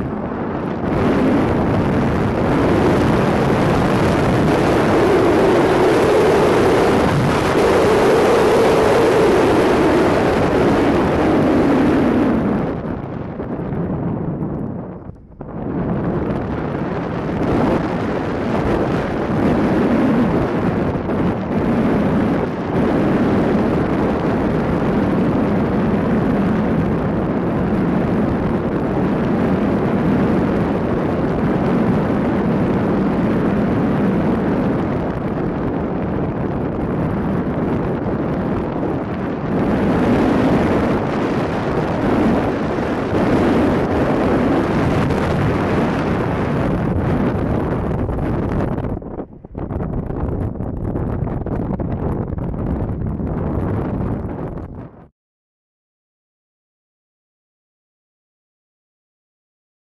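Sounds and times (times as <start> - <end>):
wind rushing over microphone: 0.0 - 55.1.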